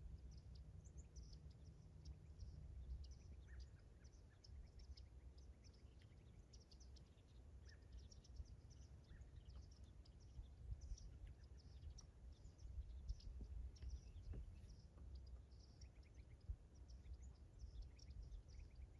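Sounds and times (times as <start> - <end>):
constant low rumble: 0.0 - 18.9
small birds chirping: 0.0 - 18.9.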